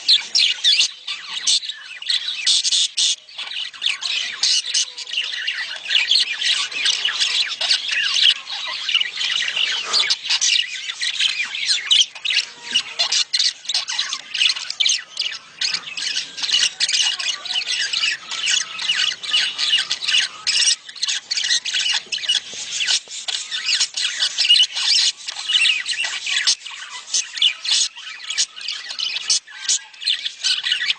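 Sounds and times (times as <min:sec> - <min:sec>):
budgerigars chattering: 0:00.0 - 0:30.9.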